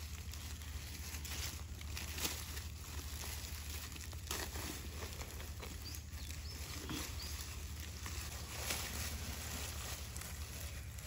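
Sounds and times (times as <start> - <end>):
crunching and tearing carcass: 0.0 - 11.0
scuffing on gravel and leaves: 0.0 - 11.0.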